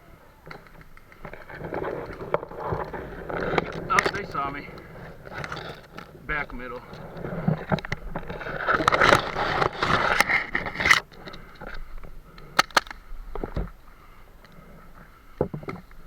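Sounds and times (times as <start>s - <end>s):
gear rustling and scraping: 0.2s - 16.0s.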